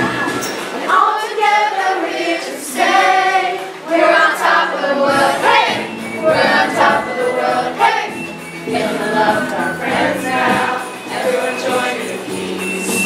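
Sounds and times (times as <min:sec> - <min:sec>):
children and adults singing: 0:00.2 - 0:13.0.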